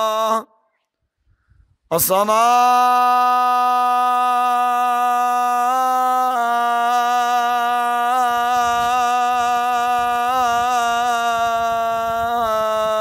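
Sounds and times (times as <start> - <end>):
man chanting: 0.0 - 0.6, 1.9 - 13.0.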